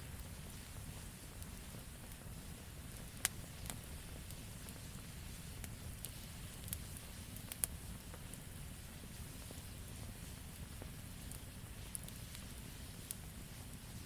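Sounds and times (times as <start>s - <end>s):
campfire popping: 0.0s - 14.0s
low noise of burning fire: 0.0s - 14.0s.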